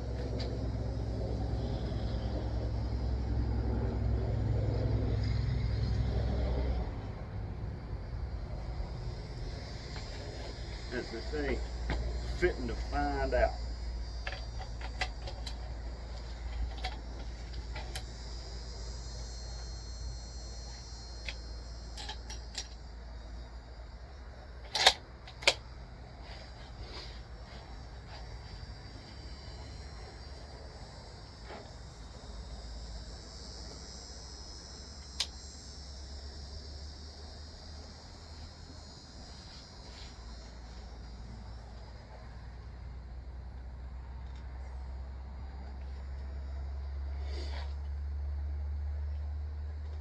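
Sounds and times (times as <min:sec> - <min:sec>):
crickets chirring: 0:00.0 - 0:50.0.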